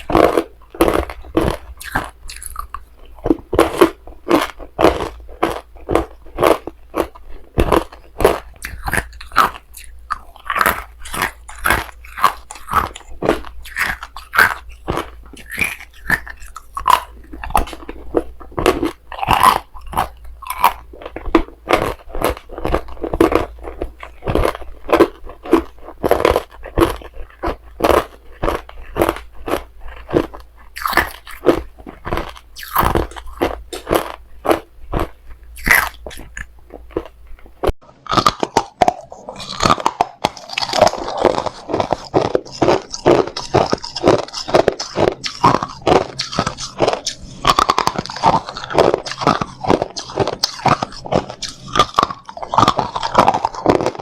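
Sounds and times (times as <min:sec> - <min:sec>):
ice crunching while chewed: 0:00.0 - 0:54.0.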